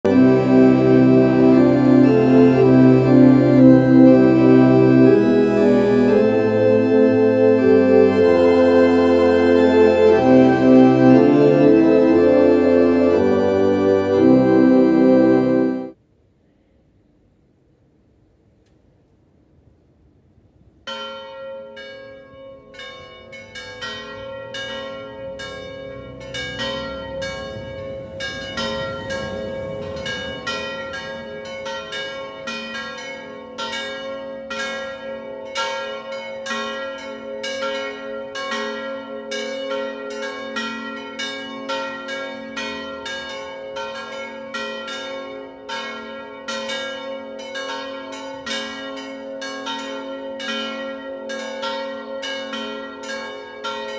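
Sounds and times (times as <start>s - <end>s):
church bells pealing: 0.0s - 16.0s, 20.9s - 53.9s.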